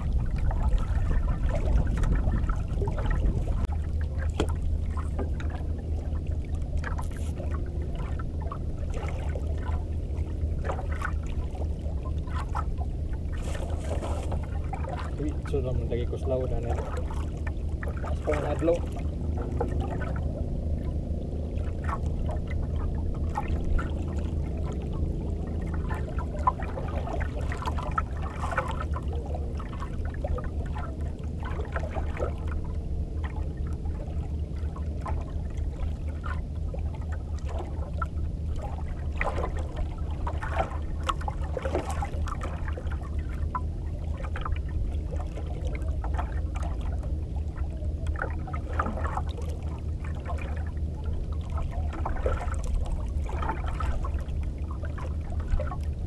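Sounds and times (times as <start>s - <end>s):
low rumble and hum: 0.0s - 56.0s
water splashing against boat hull: 0.0s - 56.0s.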